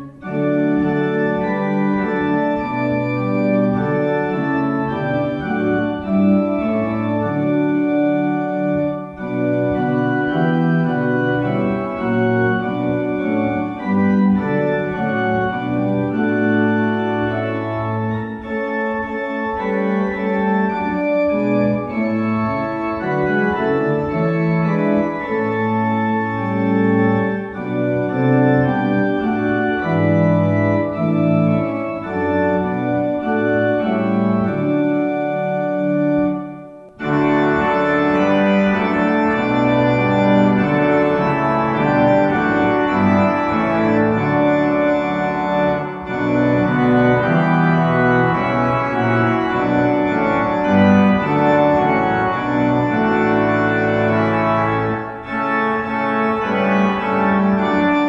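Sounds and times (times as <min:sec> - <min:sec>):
organ playing a hymn: 0:00.0 - 0:58.0.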